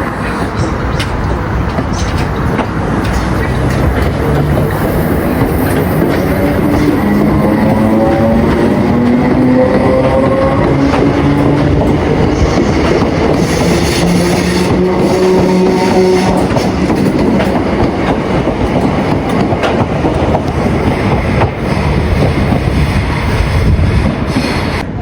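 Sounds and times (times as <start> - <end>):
train wheels clattering: 0.0 - 24.8.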